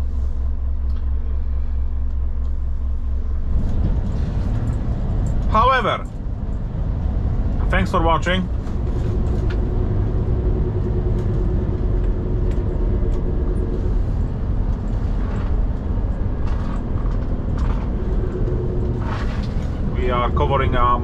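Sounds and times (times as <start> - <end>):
diesel truck engine rumble: 0.0 - 21.0
steady engine hum: 0.0 - 21.0
tyre and road noise: 0.0 - 21.0.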